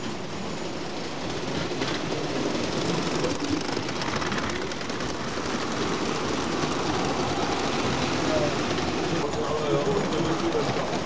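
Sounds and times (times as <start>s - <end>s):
toy train wheels clattering: 1.2s - 11.0s.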